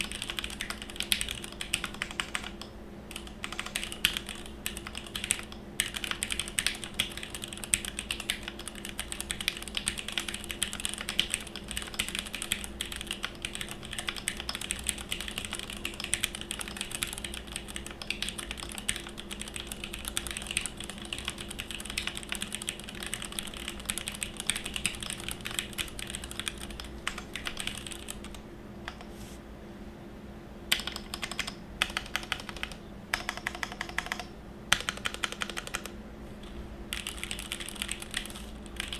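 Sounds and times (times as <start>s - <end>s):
mechanical keyboard typing: 0.0s - 29.0s, 30.7s - 36.0s, 36.9s - 38.9s.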